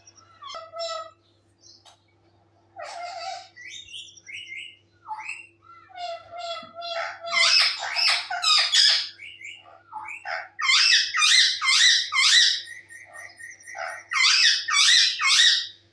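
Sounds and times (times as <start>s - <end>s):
faint steady hum: 0.0s - 15.9s
parrot squawking: 0.4s - 1.1s, 2.8s - 15.8s.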